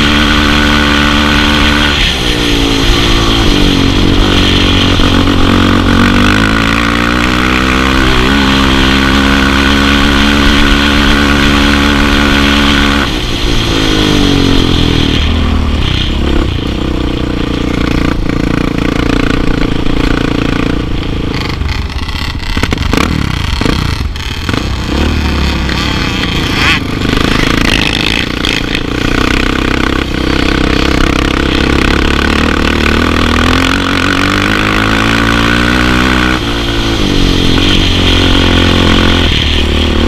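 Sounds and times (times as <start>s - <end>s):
quad engine revving: 0.0s - 40.0s.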